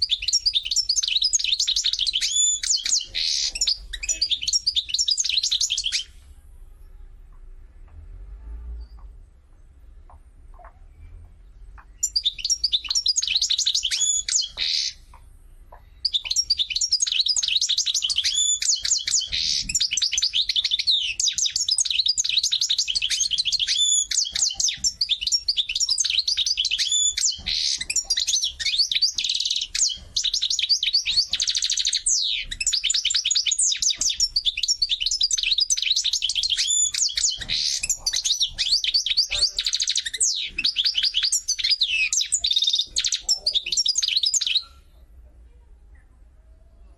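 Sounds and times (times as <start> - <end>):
songbird chirping and trilling: 0.0 - 46.9.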